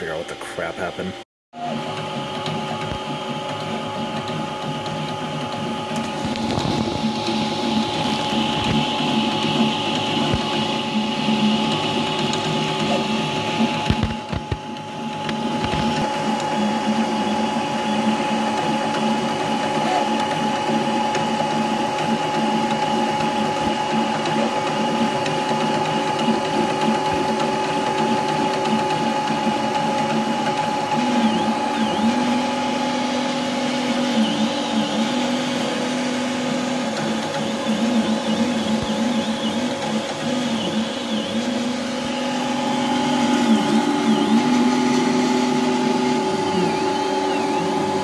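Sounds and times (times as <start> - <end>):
printer stepper motors whining: 0.0 - 48.0
steady printer hum: 0.0 - 48.0.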